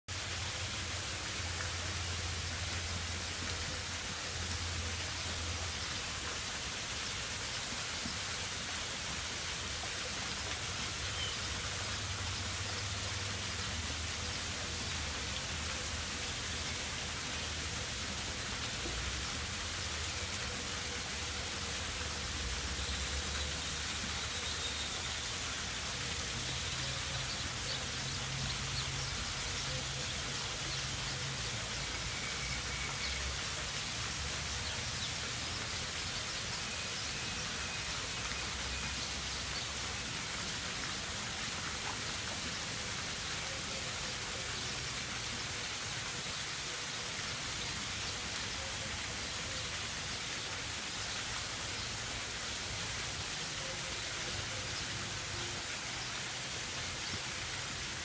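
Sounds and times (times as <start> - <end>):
outdoor background hiss: 0.1 - 58.0.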